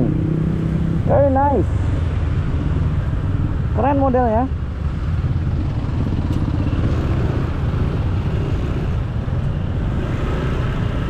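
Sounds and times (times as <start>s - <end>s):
motorcycle engine rumble: 0.0s - 11.0s
traffic and road noise: 0.0s - 11.0s.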